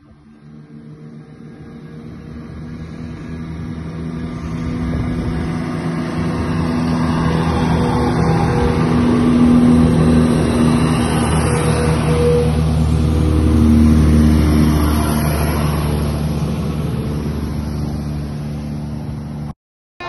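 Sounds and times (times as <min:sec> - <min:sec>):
train passing: 0:00.0 - 0:19.5.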